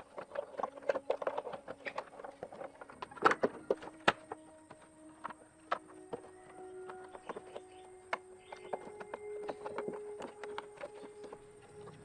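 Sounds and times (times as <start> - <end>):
tools and parts clicking and knocking: 0.0 - 12.0.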